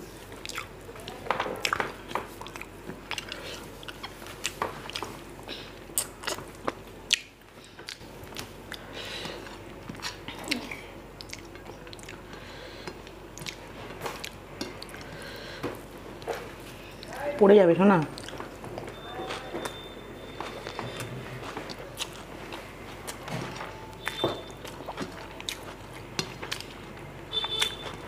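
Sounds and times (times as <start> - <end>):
person chewing food: 0.0 - 17.2, 18.1 - 28.0.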